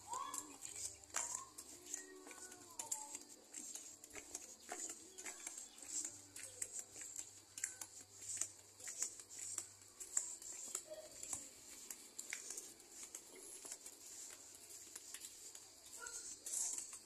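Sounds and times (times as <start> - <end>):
flip-flop footsteps on concrete: 0.0 - 17.0.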